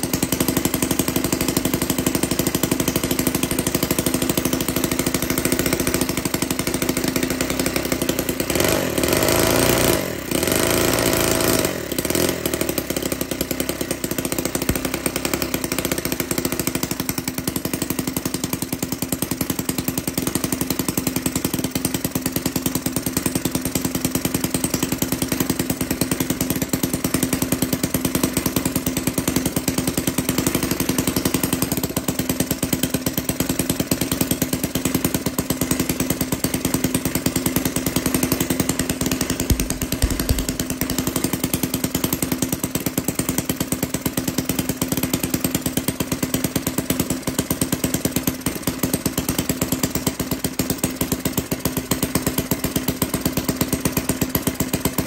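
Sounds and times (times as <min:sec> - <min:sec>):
model boat engine running: 0:00.0 - 0:55.0.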